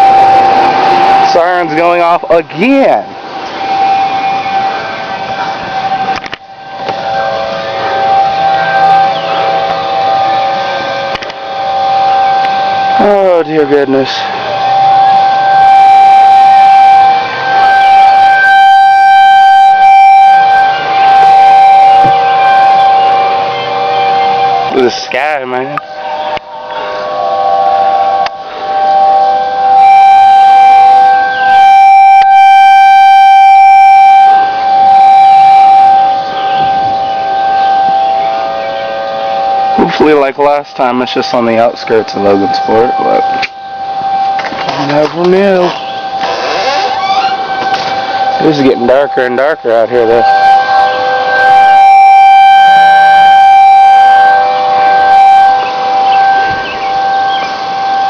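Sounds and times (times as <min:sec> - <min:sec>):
tornado warning siren: 0:00.0 - 0:58.0.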